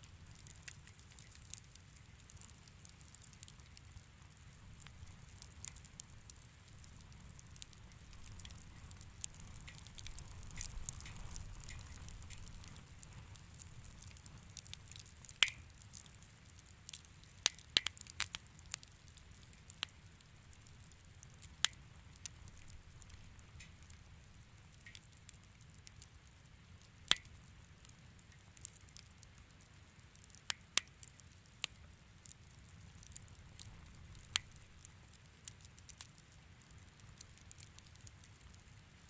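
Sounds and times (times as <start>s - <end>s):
low rumble of burning fire: 0.0s - 39.0s
wood fire crackling: 0.0s - 39.0s.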